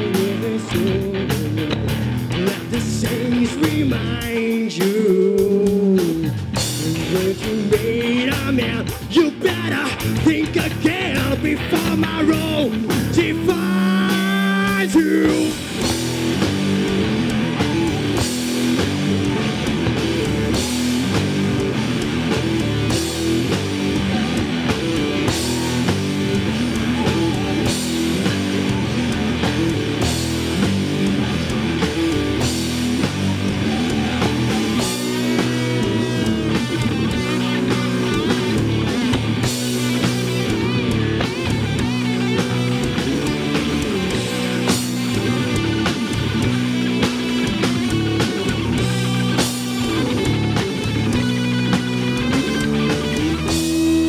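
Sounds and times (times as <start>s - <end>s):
bending guitar lead line: 0.0s - 54.0s
rock band playing: 0.0s - 54.0s.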